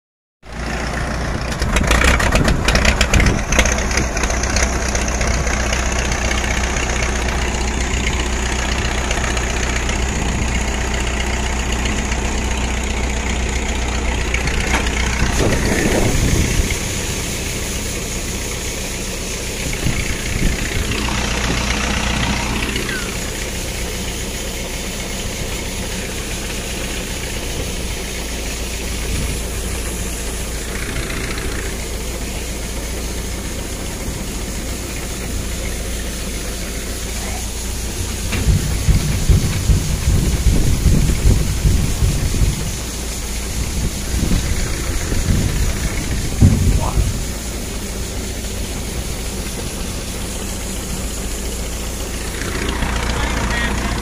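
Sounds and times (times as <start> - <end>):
combine harvester working: 0.4 - 54.0
diesel tractor engine running: 0.4 - 54.0.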